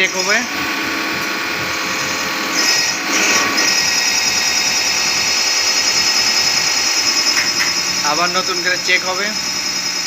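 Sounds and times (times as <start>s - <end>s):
injection pump test bench running: 0.0s - 10.0s.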